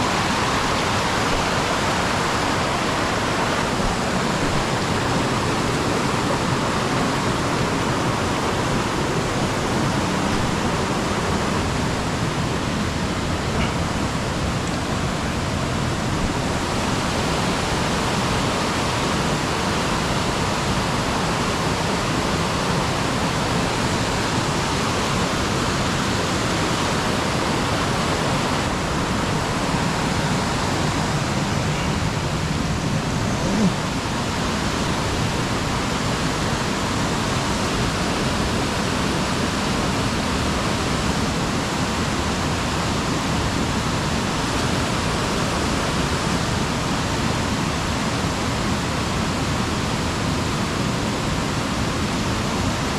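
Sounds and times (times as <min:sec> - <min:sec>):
water rushing: 0:00.0 - 0:52.9.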